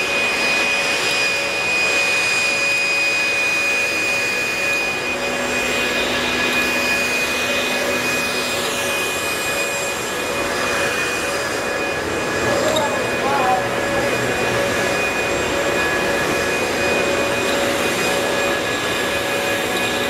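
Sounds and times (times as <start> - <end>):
leaf blowers whining: 0.0 - 20.0.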